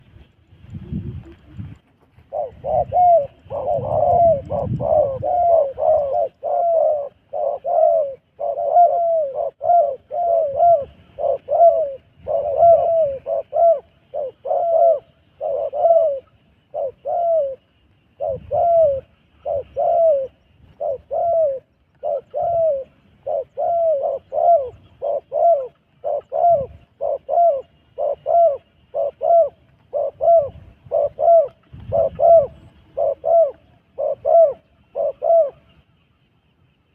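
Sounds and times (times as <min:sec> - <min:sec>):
dove cooing: 0:00.7 - 0:35.8.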